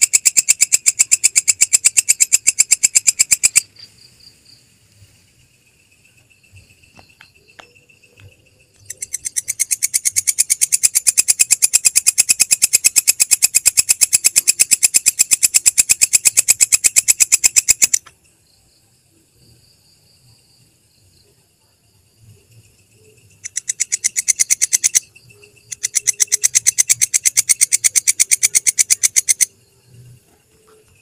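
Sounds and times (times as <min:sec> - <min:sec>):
bush cricket rapid clicks: 0:00.0 - 0:18.6, 0:21.0 - 0:31.0.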